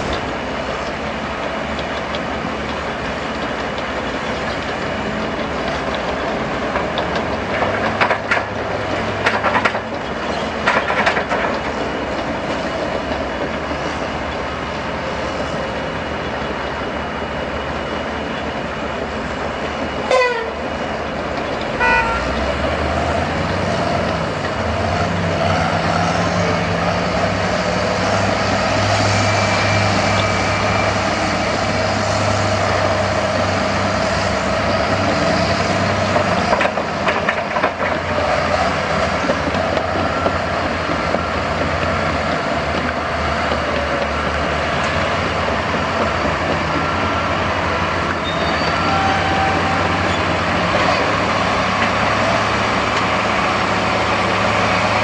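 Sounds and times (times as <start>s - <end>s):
heavy diesel truck engine: 0.0s - 55.0s.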